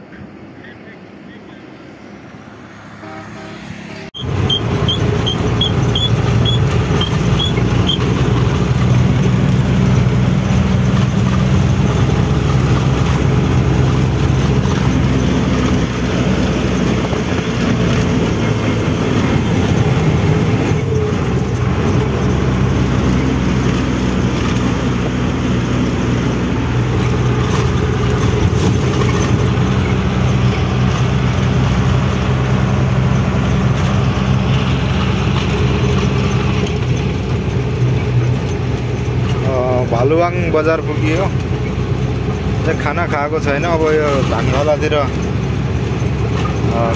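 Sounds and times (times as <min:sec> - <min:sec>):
road noise: 0:00.0 - 0:46.9
truck diesel engine running: 0:00.0 - 0:46.9.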